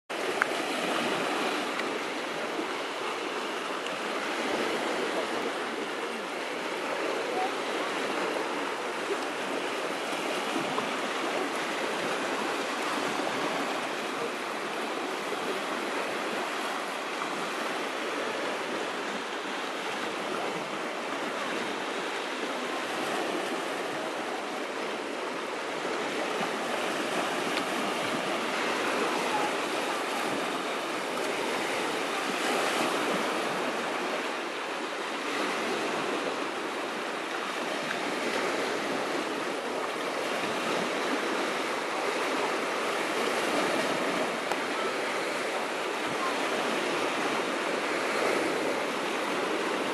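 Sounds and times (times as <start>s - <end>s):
sea waves washing in: 0.1s - 49.9s.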